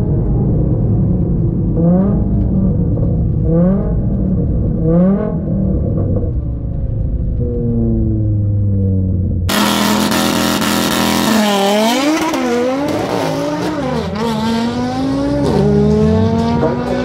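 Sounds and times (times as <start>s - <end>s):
car engine revving and accelerating: 1.6s - 6.4s, 7.3s - 17.0s.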